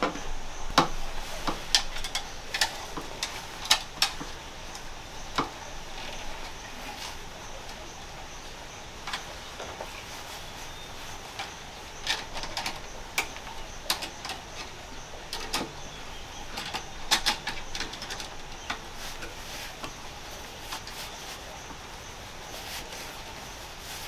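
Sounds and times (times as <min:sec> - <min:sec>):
irregular clicks and light knocks: 0:00.0 - 0:23.3
faint background hiss: 0:00.0 - 0:24.0.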